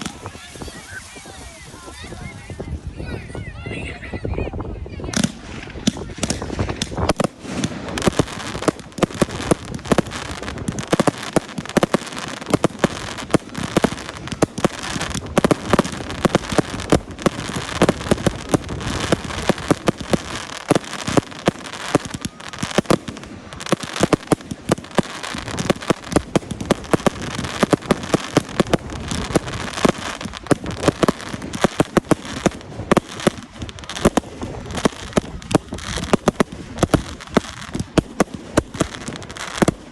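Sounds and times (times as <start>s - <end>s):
fireworks bangs: 0.0s - 3.9s, 4.5s - 39.9s
fireworks crackle: 0.0s - 39.9s.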